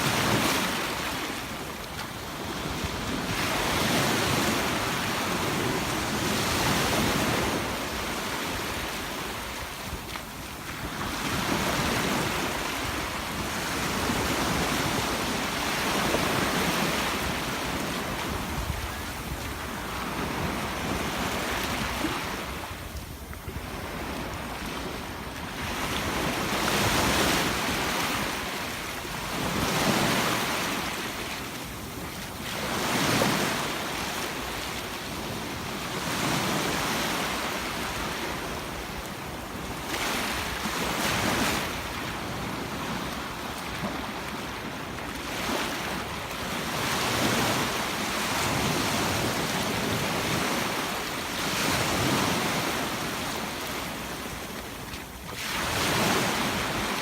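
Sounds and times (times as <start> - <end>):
sea waves breaking: 0.0 - 22.9, 23.5 - 57.0
wind on microphone: 0.0 - 57.0.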